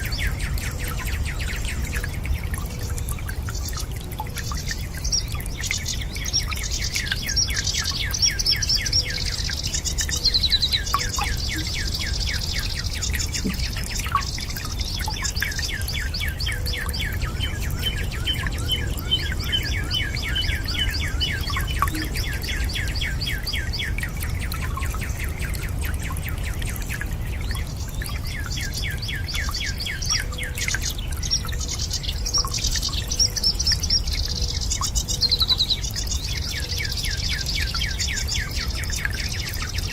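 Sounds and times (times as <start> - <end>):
water rushing: 0.0 - 32.3
faint water drips: 0.0 - 39.9
songbirds trilling: 0.0 - 39.9.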